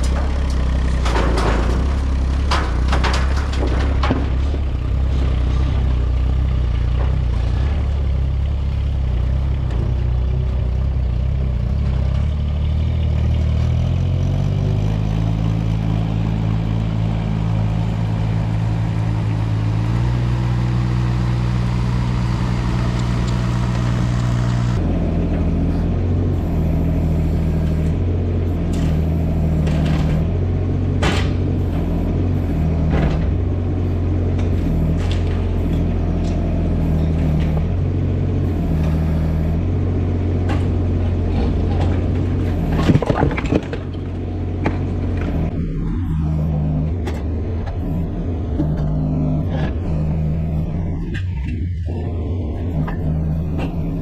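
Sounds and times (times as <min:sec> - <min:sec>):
heavy equipment diesel engine: 0:00.0 - 0:54.0.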